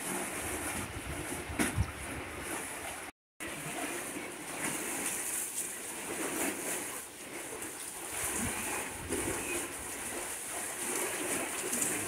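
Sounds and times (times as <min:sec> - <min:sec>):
waves lapping around pilings: 0:00.0 - 0:12.0.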